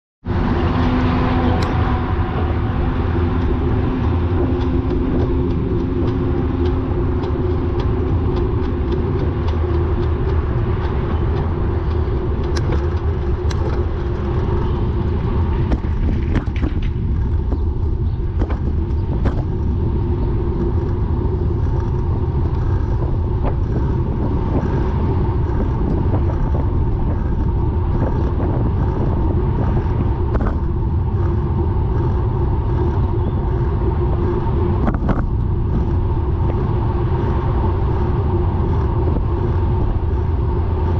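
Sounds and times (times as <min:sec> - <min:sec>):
road and wind rumble: 0:00.2 - 0:40.9
bicycle drivetrain clicking: 0:00.3 - 0:40.9.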